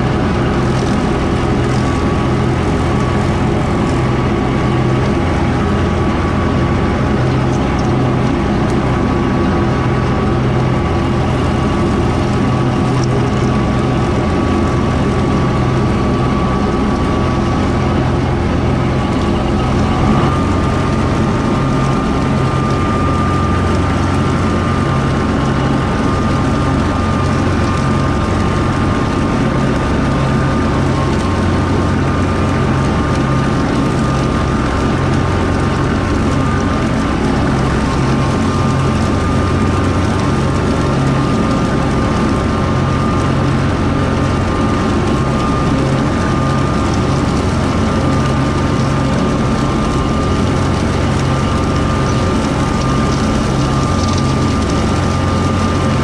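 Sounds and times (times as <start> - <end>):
rotary mower high whine: 0.0 - 56.0
tractor diesel engine running: 0.0 - 56.0.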